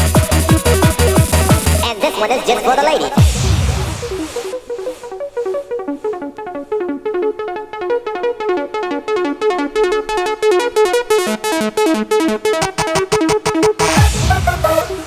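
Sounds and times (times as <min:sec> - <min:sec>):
electronic dance music synth riff: 0:00.0 - 0:15.0.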